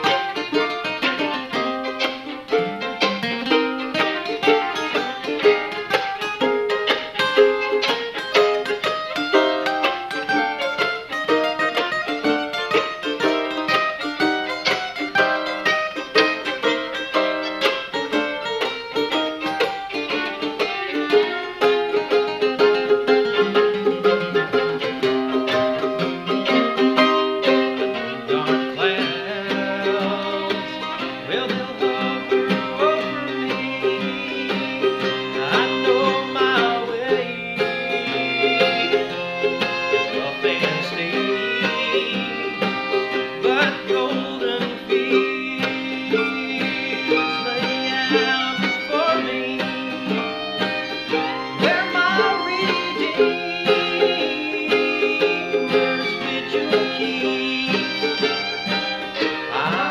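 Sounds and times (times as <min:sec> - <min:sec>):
acoustic guitar: 0:00.0 - 0:59.9
bowed fiddle: 0:00.0 - 0:59.9
mandolin picking: 0:00.0 - 0:59.9.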